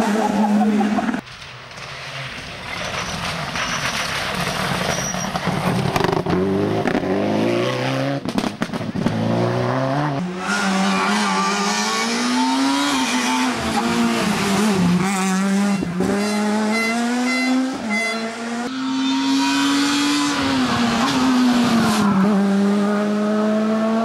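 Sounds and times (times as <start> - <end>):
rally car engines revving: 0.0 - 1.2, 1.8 - 24.0.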